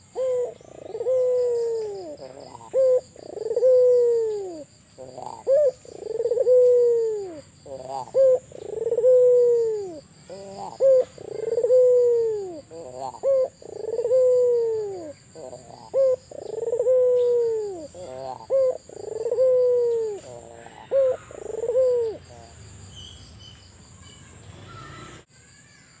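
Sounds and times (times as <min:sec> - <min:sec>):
dove cooing: 0:00.0 - 0:22.6
faint bird chirps: 0:00.0 - 0:26.0.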